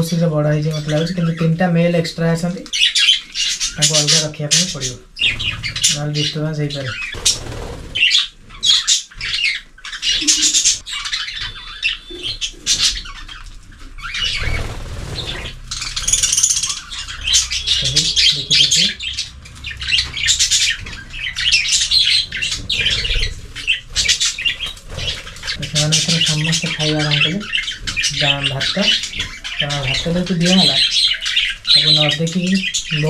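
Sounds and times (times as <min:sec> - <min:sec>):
budgerigars chirping and chattering: 0:00.0 - 0:33.0.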